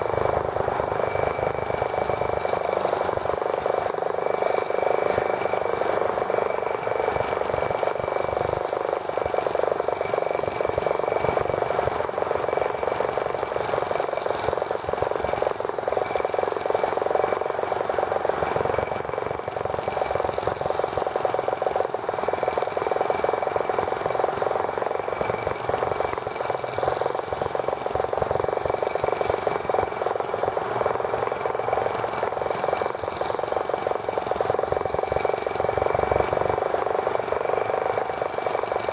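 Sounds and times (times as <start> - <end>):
small tractor engine running: 0.0 - 38.9.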